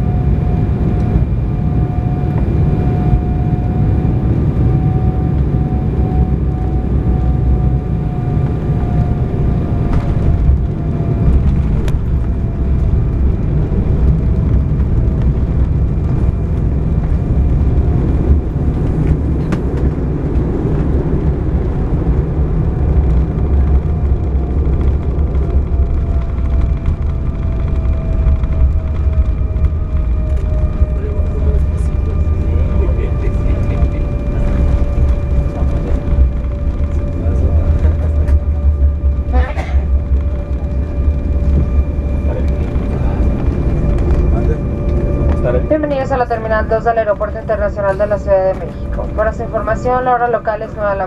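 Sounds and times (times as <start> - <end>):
jet engines and airflow rumble: 0.0 - 51.0.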